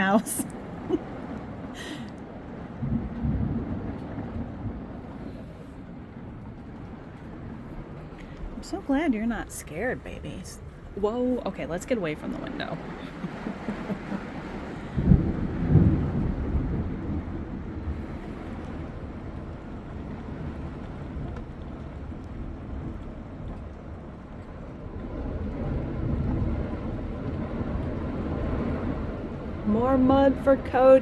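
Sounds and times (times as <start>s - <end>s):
heavy rain: 0.0s - 31.0s
thunder rumbling: 0.0s - 31.0s.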